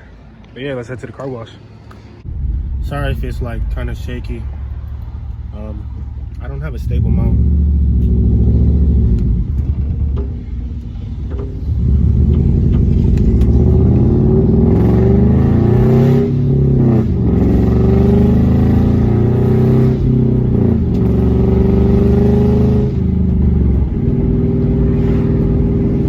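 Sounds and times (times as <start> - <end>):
car engine accelerating through gears: 2.3 - 26.0.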